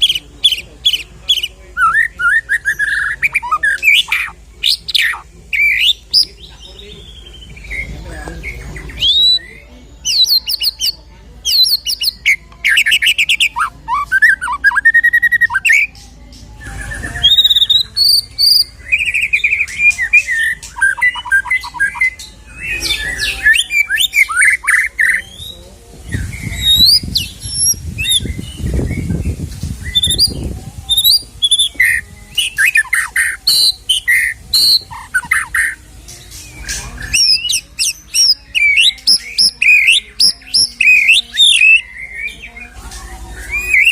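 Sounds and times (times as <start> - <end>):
bird singing varied song: 0.0 - 43.9.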